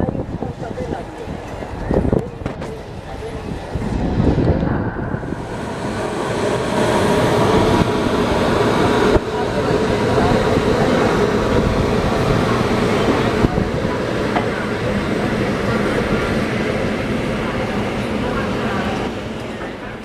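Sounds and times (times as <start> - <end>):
train coaches rumbling on rails: 0.0 - 20.0.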